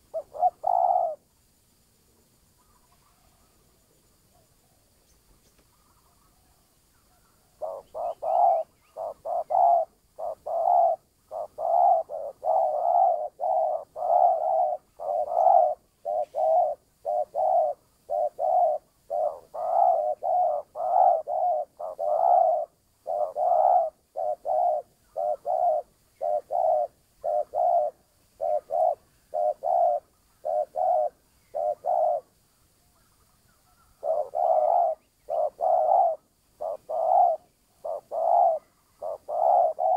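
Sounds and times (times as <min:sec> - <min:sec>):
dove cooing: 0:00.0 - 0:01.3, 0:05.7 - 0:32.4, 0:33.0 - 0:39.9.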